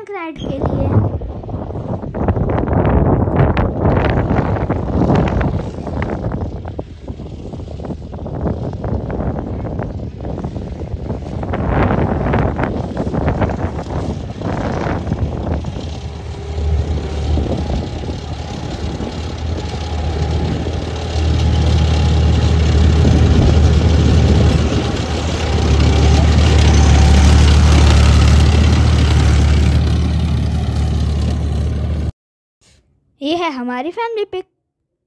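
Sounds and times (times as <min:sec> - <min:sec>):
tracked vehicle engine rumbling: 0:00.4 - 0:32.1.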